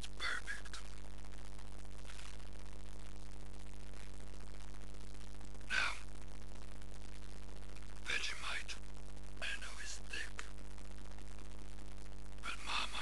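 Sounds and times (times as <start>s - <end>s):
low electrical hum and hiss: 0.0s - 13.0s.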